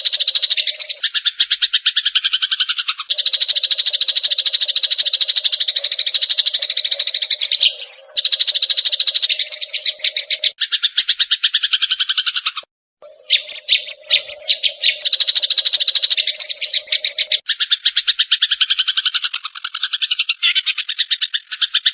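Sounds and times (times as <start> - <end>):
sparrows harsh chirping: 0.0 - 21.9.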